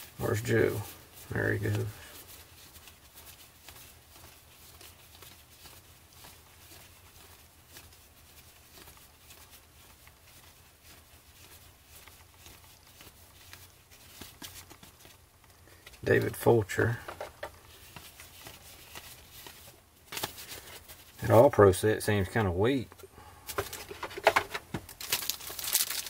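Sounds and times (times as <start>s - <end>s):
cards being flipped through: 1.2s - 21.2s, 23.5s - 26.0s.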